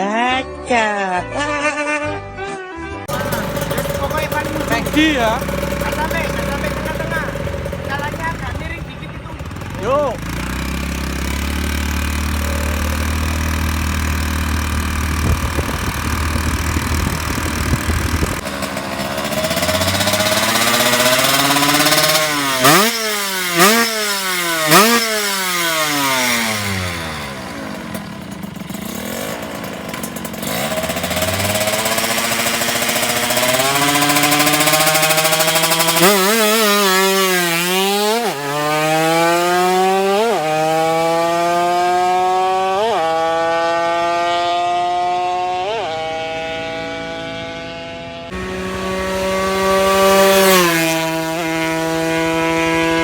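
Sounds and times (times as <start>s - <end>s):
motorcycle engine revving: 3.1s - 53.0s.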